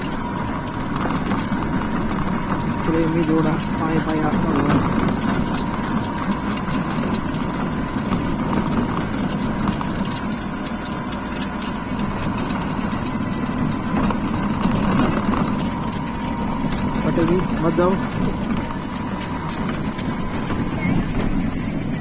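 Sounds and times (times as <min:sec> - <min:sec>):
small ticks from road surface: 0:00.0 - 0:21.7
vehicle rumble on rough road: 0:00.0 - 0:22.0.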